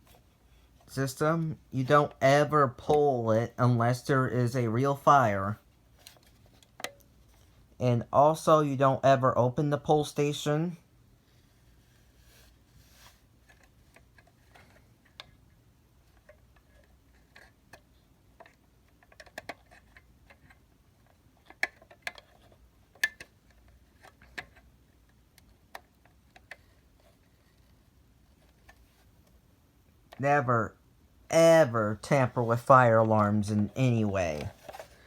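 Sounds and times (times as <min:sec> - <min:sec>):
faint low room hum: 0:00.0 - 0:35.0.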